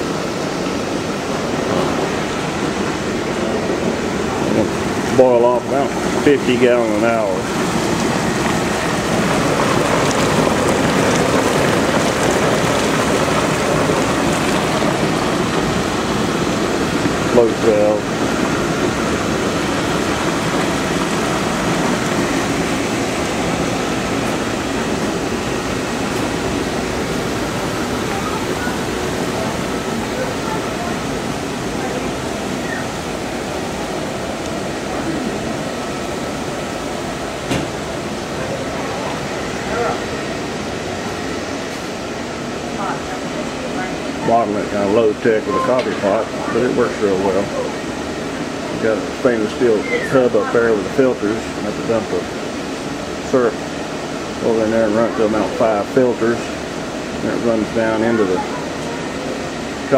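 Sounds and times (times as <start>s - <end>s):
sap boiling and bubbling: 0.0s - 59.9s.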